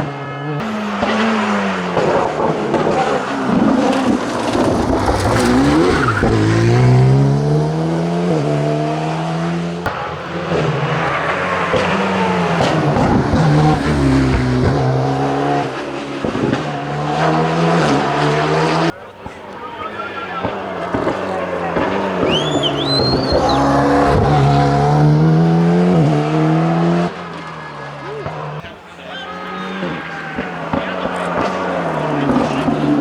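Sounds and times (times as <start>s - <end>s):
tyres squealing on tarmac: 0.0s - 7.4s, 9.9s - 33.0s
rally car engine revving: 0.0s - 33.0s.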